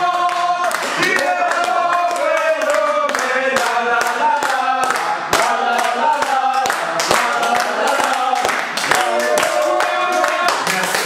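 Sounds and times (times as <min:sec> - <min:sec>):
group singing in chorus: 0:00.0 - 0:11.0
people clapping in time: 0:00.0 - 0:11.0.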